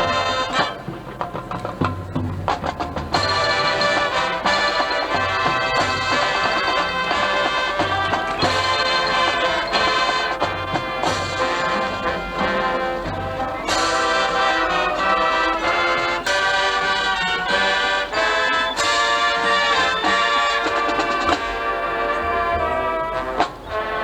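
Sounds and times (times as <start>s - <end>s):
brass sustained chords: 0.0s - 1.0s, 3.2s - 24.0s
marching band playing: 0.0s - 24.0s.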